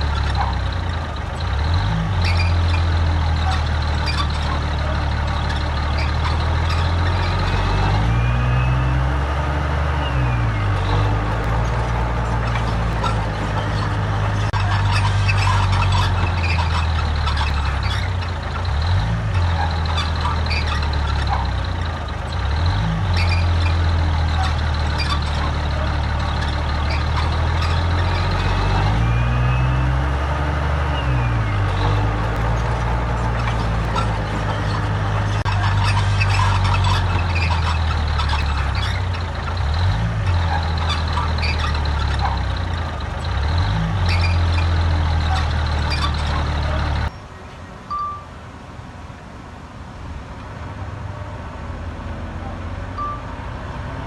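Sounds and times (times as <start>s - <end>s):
heavy diesel machinery running: 0.0s - 47.1s.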